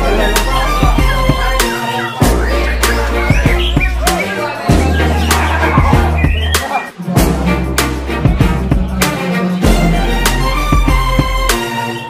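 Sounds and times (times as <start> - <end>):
background music with heavy bass: 0.0 - 12.0.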